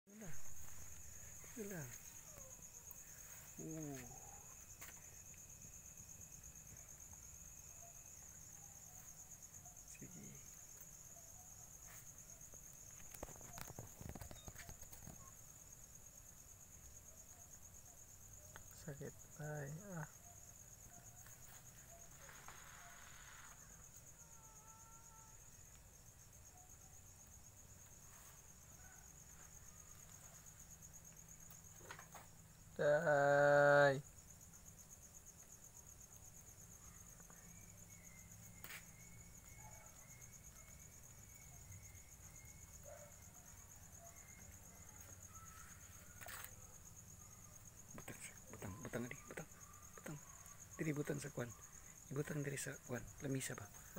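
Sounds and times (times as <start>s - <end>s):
high-pitched insect trilling: 0.1s - 53.9s.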